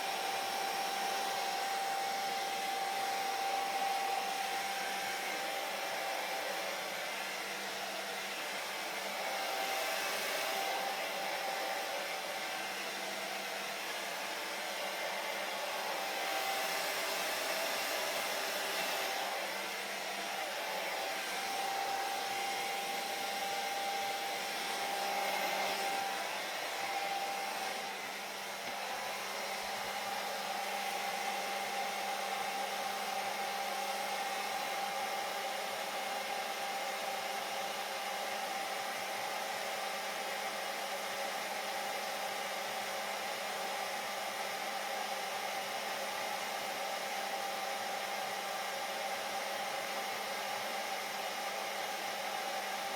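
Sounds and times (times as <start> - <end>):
hair dryer running: 0.0 - 52.9.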